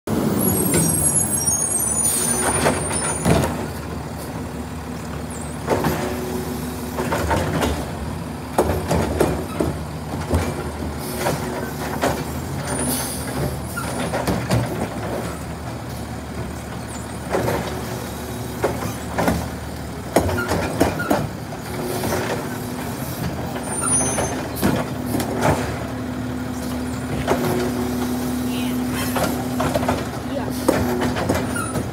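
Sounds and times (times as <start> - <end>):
diesel engine humming: 0.1 - 31.9
trash carts clunking and banging: 0.1 - 31.9.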